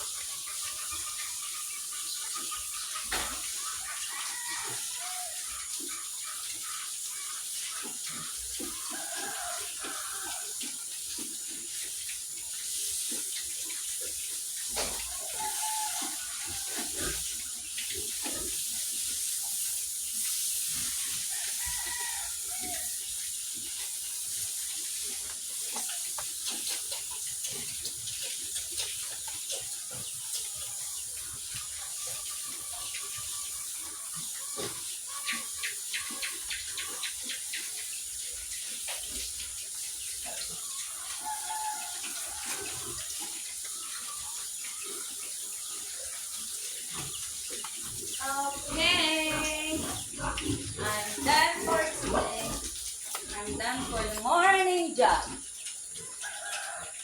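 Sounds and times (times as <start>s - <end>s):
water running: 0.0s - 37.2s, 37.9s - 56.8s.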